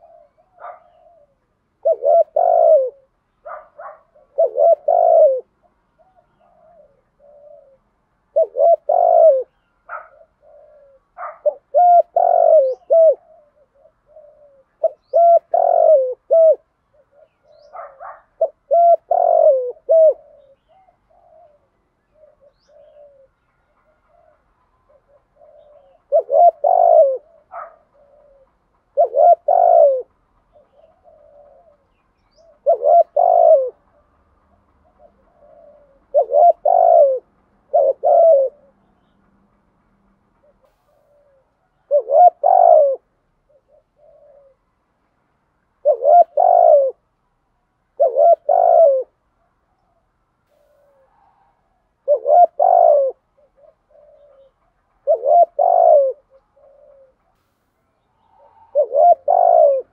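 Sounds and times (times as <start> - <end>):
dove cooing: 0.0 - 39.2, 40.3 - 44.8, 45.7 - 47.1, 47.9 - 57.4, 58.0 - 59.9.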